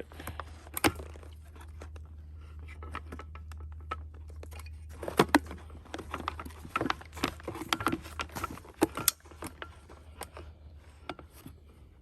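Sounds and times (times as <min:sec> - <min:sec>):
metallic clinks and rattles of chainsaw: 0:00.0 - 0:11.6.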